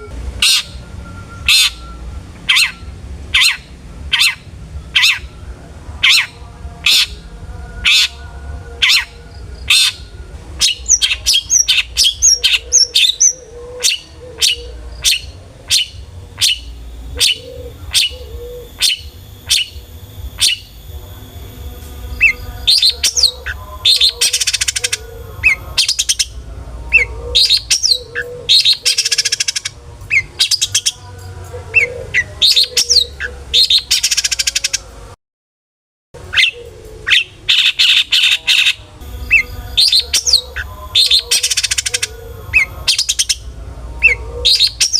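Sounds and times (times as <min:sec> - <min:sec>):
shrike calling sharp notes: 0:00.0 - 0:05.3, 0:06.0 - 0:31.1, 0:36.3 - 0:44.9.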